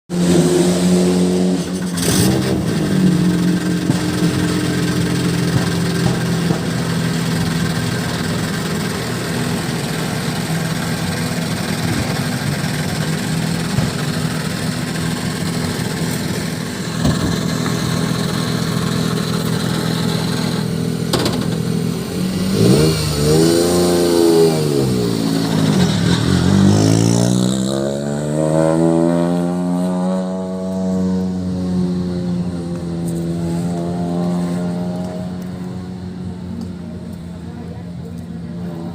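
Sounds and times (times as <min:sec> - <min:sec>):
rally car engine idling and revving: 0:00.1 - 0:38.9.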